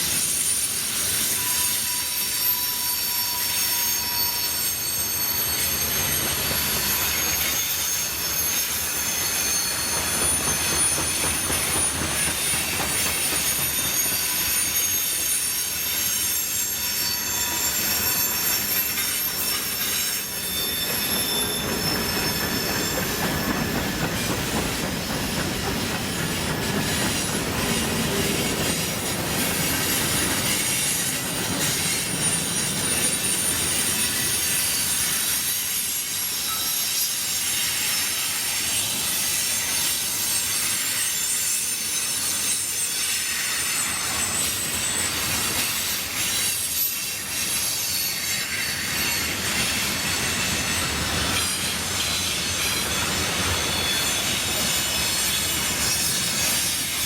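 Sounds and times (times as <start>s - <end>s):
rumble of train wheels: 0.0s - 57.0s
train wheels squealing on rail: 0.0s - 57.0s.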